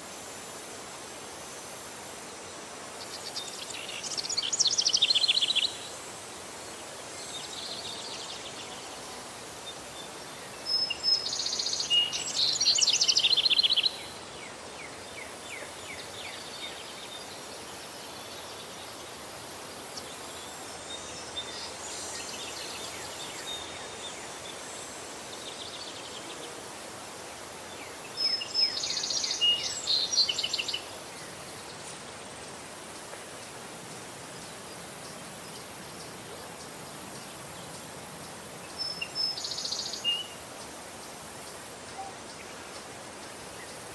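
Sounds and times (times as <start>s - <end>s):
background hiss: 0.0s - 43.9s.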